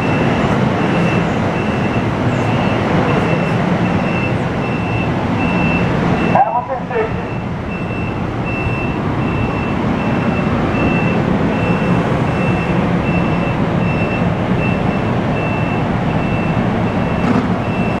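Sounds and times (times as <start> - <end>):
train wheels rumbling on rail: 0.0 - 6.3, 7.0 - 18.0
high electronic beep: 0.0 - 18.0.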